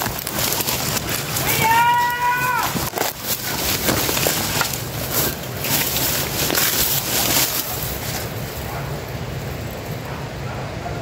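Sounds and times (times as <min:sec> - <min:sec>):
undergrowth rustling and crackling: 0:00.0 - 0:10.1.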